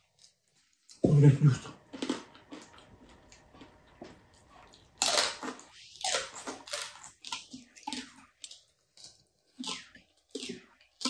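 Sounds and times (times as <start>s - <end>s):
crunching and chewing crispy pork: 0.0s - 11.0s.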